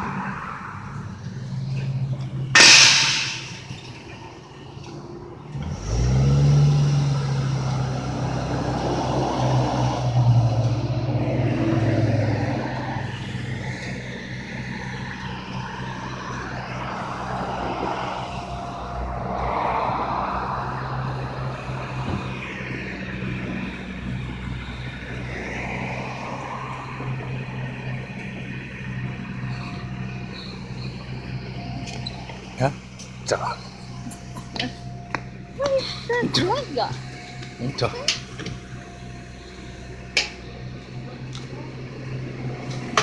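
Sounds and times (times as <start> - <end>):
minibus engine idling: 0.0 - 43.0
passing traffic: 0.0 - 43.0.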